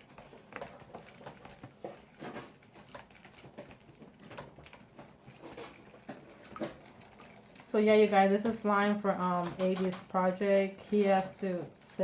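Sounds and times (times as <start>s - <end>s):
utensils and containers clicking: 0.0s - 12.0s.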